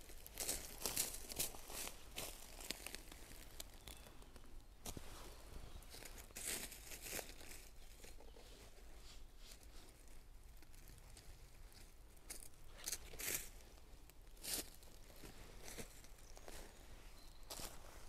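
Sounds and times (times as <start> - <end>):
dry leaves rustling and crunching: 0.0 - 5.0, 5.8 - 8.7, 9.5 - 13.8, 14.4 - 16.8, 17.4 - 18.0.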